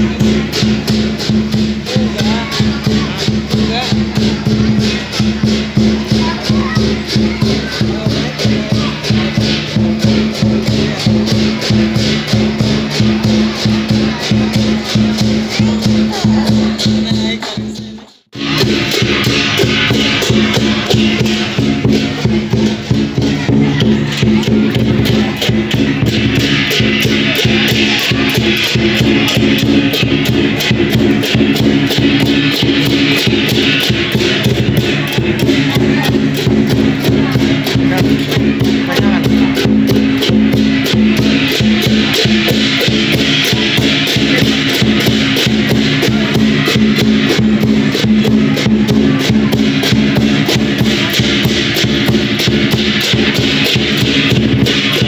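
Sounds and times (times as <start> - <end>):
clashing cymbals: 0.0 - 55.0
drum beating fast: 0.0 - 55.0.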